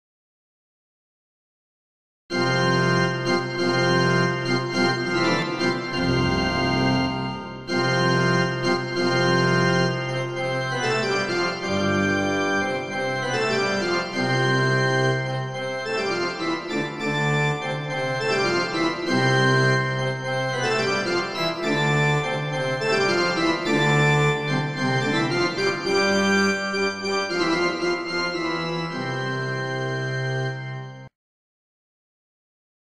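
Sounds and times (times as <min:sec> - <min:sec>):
pipe organ playing: 0:02.3 - 0:31.1.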